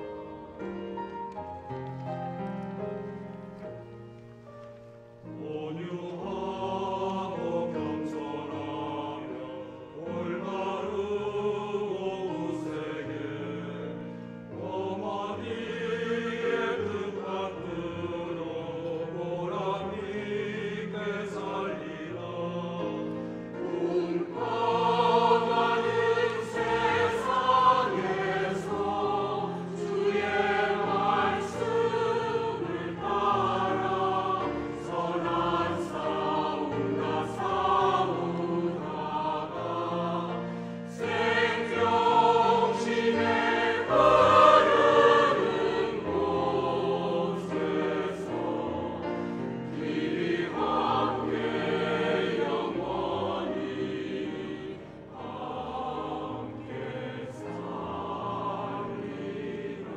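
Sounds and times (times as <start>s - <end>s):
choir singing a hymn: 0.0s - 59.9s
piano accompaniment: 0.0s - 59.9s.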